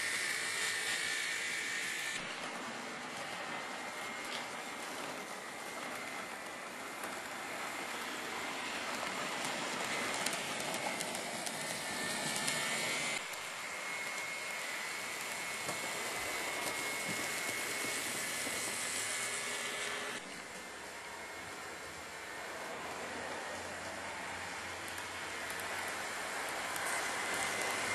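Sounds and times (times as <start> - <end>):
model train motor whine: 0.0 - 27.9.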